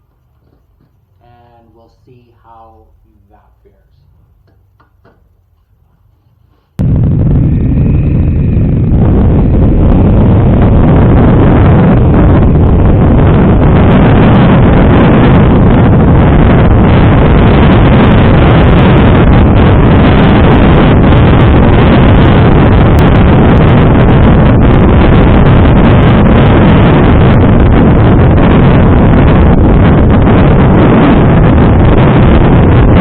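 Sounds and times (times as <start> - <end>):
wind buffeting microphone: 4.0 - 33.0.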